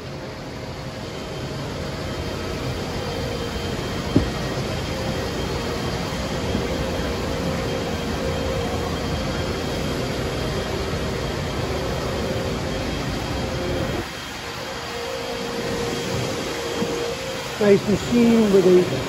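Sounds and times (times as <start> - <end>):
faint machine whine: 0.0 - 19.0
machinery low rumble: 0.0 - 19.0.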